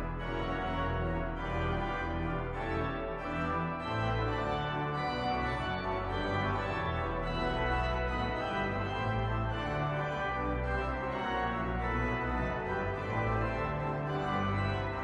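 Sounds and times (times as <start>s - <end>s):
pipe organ chords: 0.0s - 15.0s.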